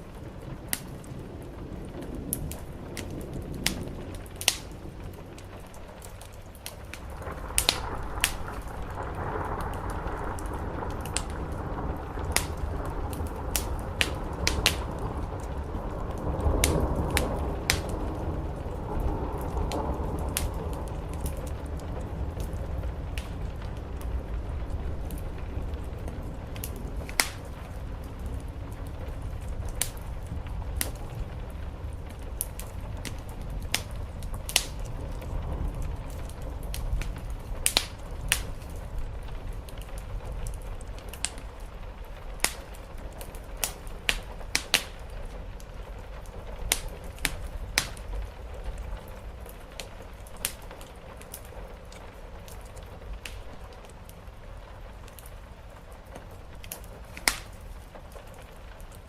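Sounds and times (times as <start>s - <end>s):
rain on the roof: 0.0s - 59.0s
wood fire crackling and popping: 0.0s - 59.0s.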